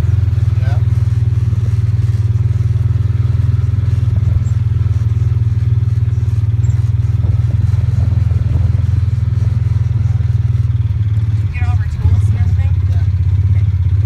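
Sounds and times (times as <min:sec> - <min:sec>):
rattle: 0:00.0 - 0:14.0
utility vehicle engine droning: 0:00.0 - 0:14.0.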